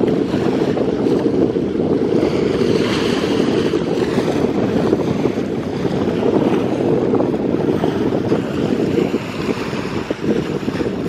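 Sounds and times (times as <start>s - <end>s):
choppy sea water lapping: 0.0s - 11.0s
wind buffeting microphone: 0.0s - 11.0s.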